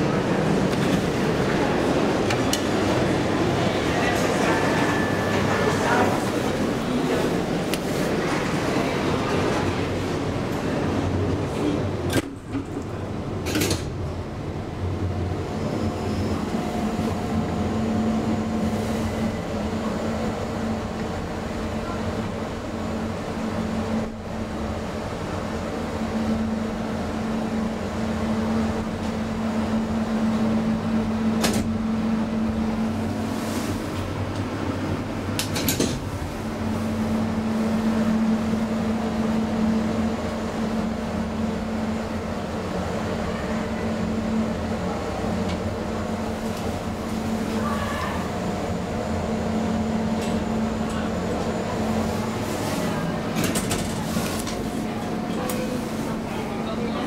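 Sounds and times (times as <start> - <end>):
elevator machine hum: 0.0 - 57.0.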